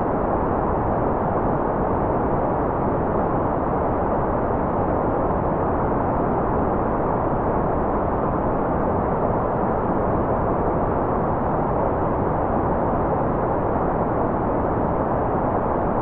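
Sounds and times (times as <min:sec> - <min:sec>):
dull white noise rush: 0:00.0 - 0:16.0.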